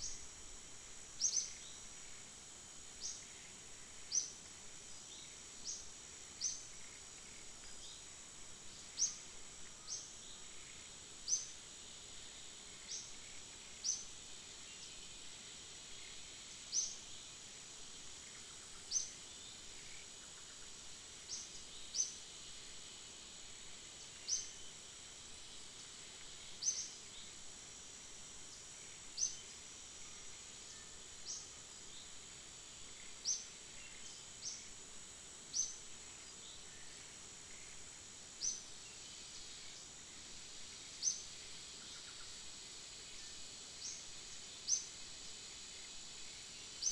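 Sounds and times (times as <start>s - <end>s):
high insect drone: 0.0s - 46.9s.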